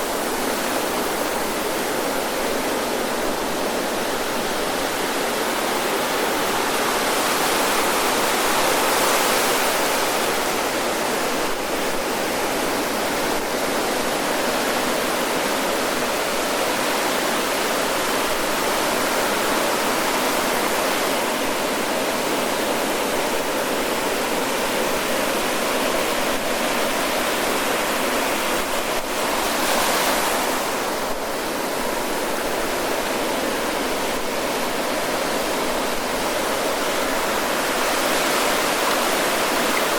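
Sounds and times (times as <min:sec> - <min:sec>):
ocean surf breaking on shore: 0:00.0 - 0:39.9.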